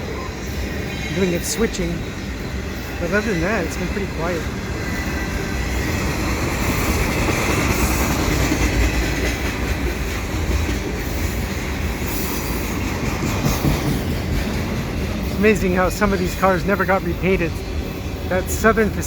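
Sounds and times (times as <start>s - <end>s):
steel wheels rumbling on rails: 0.0s - 19.0s.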